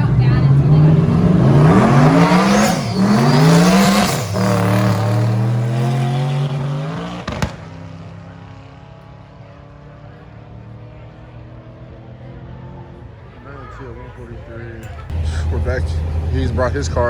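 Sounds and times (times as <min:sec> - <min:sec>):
drag car engine accelerating: 0:00.0 - 0:17.0.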